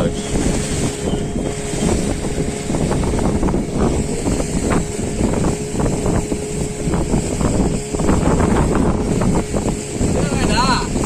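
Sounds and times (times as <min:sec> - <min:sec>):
boat motor running: 0:00.0 - 0:11.0
wind buffeting microphone: 0:00.0 - 0:11.0.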